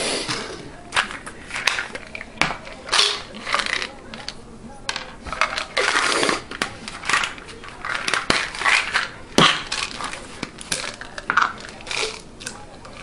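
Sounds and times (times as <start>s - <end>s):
capsules rattling in bottle: 1.5s - 4.4s, 5.3s - 13.0s.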